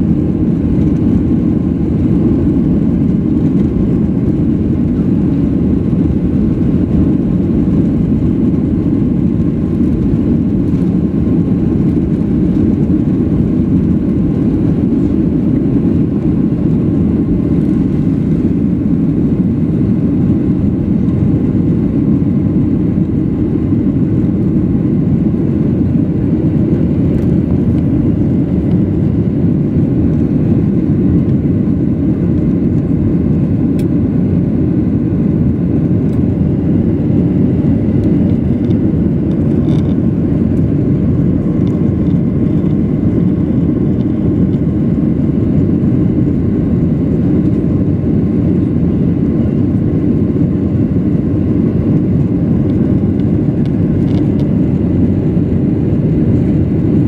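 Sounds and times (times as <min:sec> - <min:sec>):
jet engines at takeoff power: 0:00.0 - 0:57.0.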